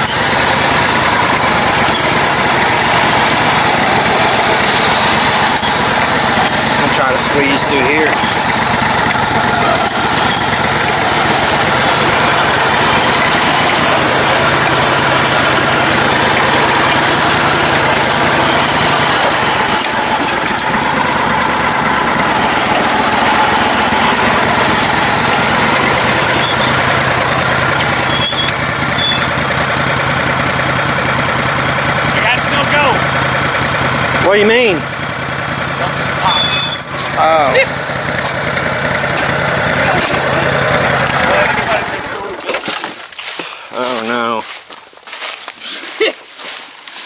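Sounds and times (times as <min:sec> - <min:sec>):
riding lawn mower engine running: 0:00.0 - 0:47.0.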